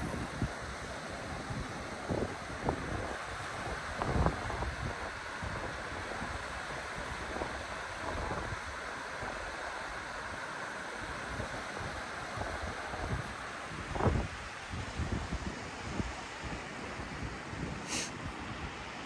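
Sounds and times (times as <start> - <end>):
wind buffeting microphone: 0.0 - 10.1, 11.0 - 19.0
river water rushing: 0.0 - 19.0.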